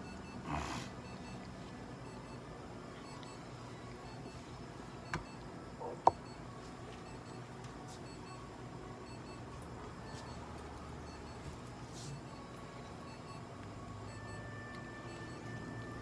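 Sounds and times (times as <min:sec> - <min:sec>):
room hum: 0:00.0 - 0:16.0.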